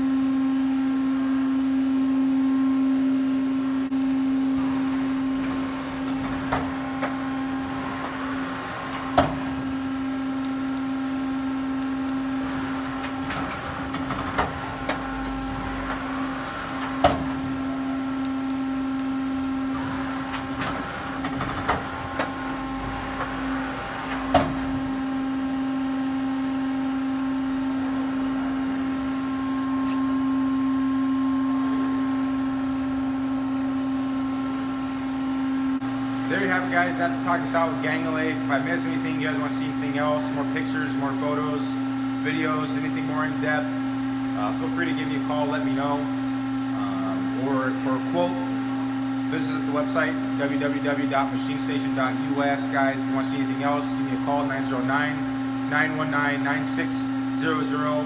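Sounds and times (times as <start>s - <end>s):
lathe humming: 3.8s - 58.0s.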